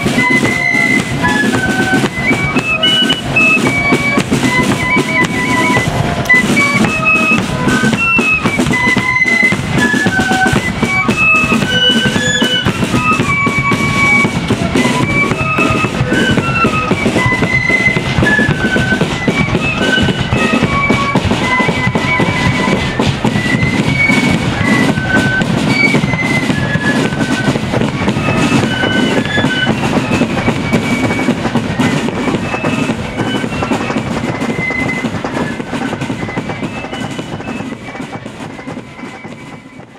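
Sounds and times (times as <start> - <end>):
high flute melody: 0.0 - 39.9
snare and bass drumming: 0.0 - 39.9.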